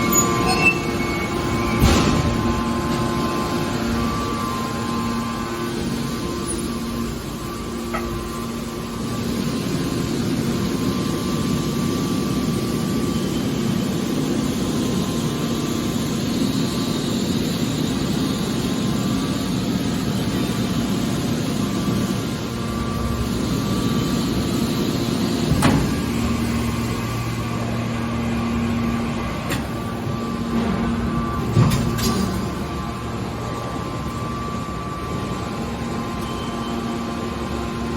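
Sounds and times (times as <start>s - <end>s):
hydraulic baler humming and whining: 0.0s - 37.9s.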